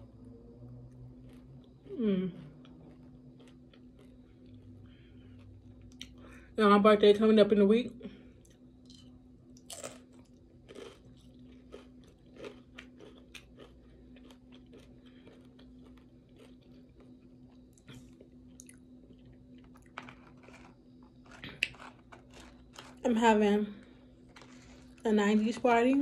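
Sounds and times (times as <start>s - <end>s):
faint steady hum: 0.0s - 26.0s
crunchy chips chewing: 0.7s - 6.2s, 8.5s - 26.0s.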